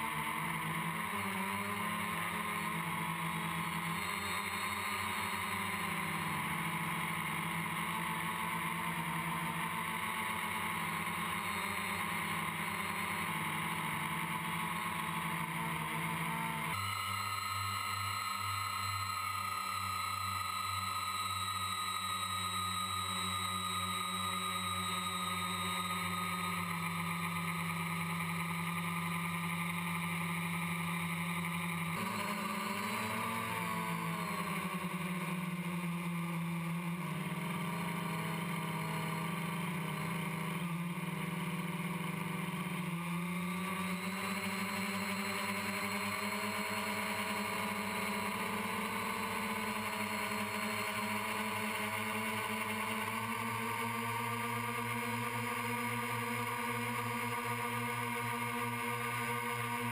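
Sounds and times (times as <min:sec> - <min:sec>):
drone propellers droning: 0:00.0 - 0:59.9.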